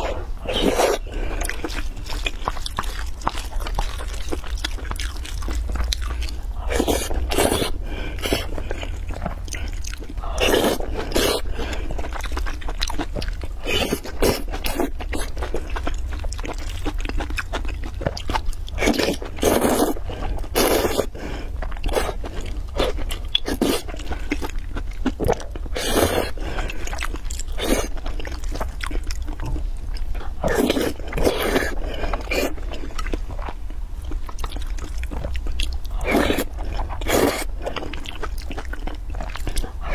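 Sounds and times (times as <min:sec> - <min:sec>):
steady low hum: 0:00.0 - 0:39.9
wet chewing: 0:00.0 - 0:39.9.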